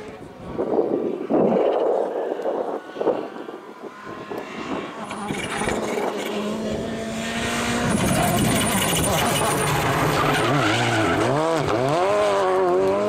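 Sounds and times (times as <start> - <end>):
rally car engine running hard: 2.4 - 13.0.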